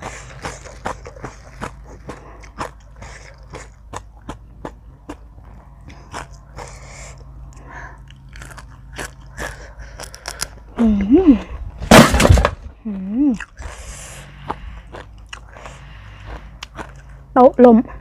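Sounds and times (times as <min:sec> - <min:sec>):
person chewing and biting: 0:00.0 - 0:11.6, 0:13.3 - 0:17.4.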